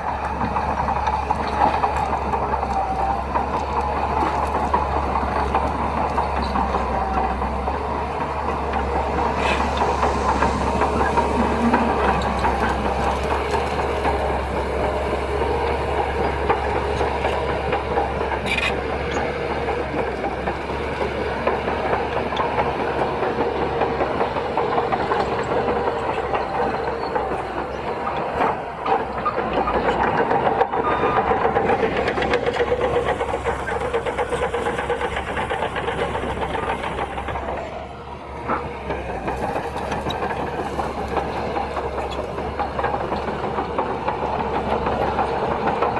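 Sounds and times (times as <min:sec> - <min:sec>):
clatter of steel tracks: 0:00.0 - 0:45.9
diesel engine under load: 0:00.0 - 0:45.9.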